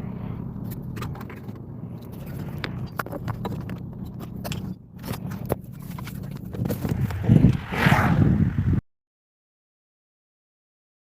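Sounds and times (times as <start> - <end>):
vehicle low hum: 0.0 - 8.8.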